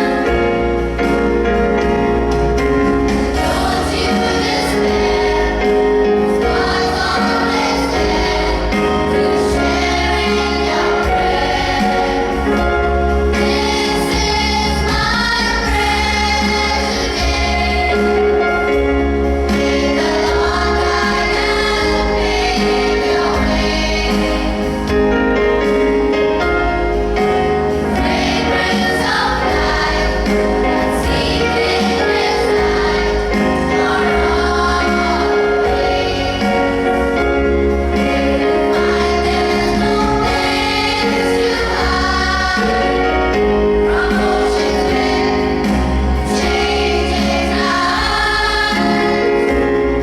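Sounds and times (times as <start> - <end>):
choir singing: 0.0 - 50.0
instrumental accompaniment: 0.0 - 50.0.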